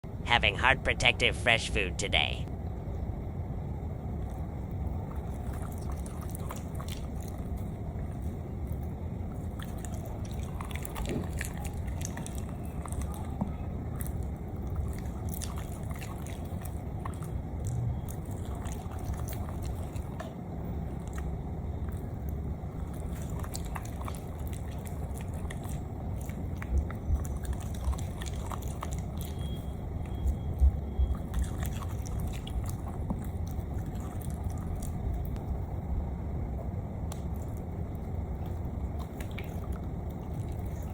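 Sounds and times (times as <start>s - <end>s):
dog chewing wet food: 4.2s - 35.6s, 37.1s - 40.9s.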